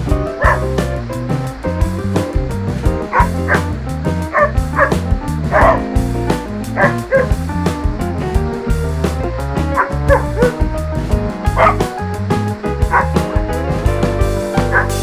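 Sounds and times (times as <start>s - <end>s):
background music with beat: 0.0s - 15.0s.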